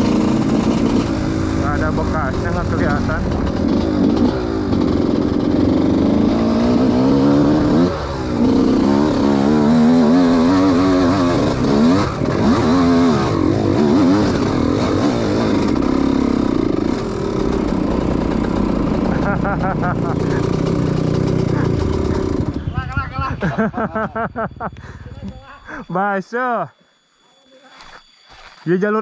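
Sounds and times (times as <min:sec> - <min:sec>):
dirt bike engine revving: 0:00.0 - 0:25.8.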